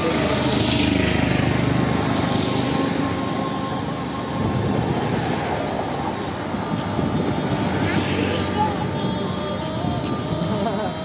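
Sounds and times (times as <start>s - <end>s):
cars passing on wet road: 0.0s - 11.0s.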